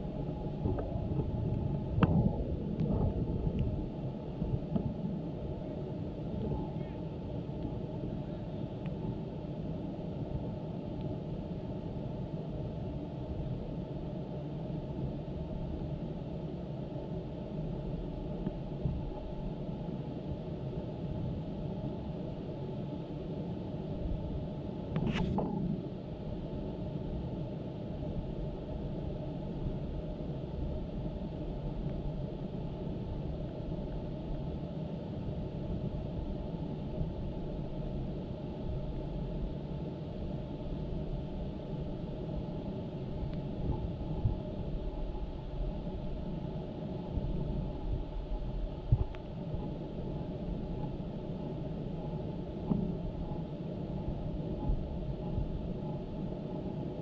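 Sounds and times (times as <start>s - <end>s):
low rumble noise: 0.0s - 57.0s.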